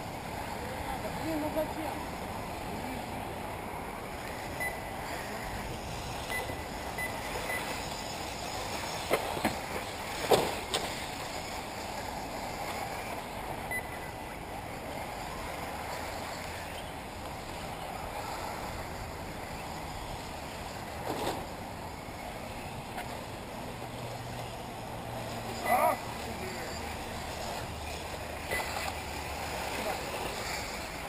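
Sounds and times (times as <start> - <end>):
rc buggies rushing: 0.0 - 31.0.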